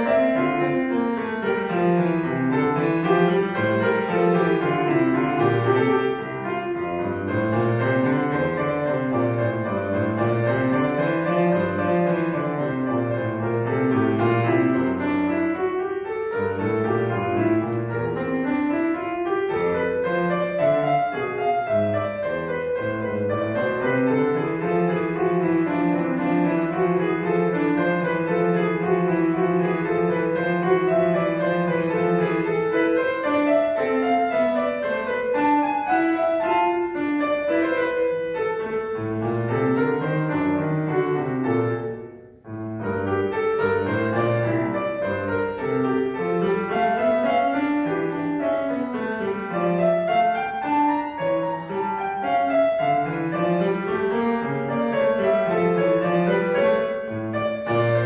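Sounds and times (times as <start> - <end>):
solo classical piano: 0.0 - 58.0.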